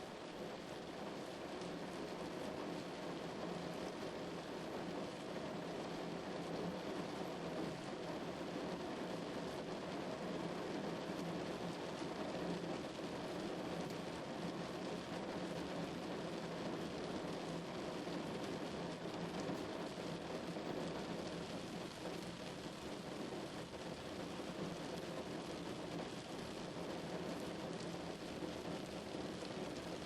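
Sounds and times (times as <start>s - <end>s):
heavy rain drumming on a car: 0.0s - 30.0s.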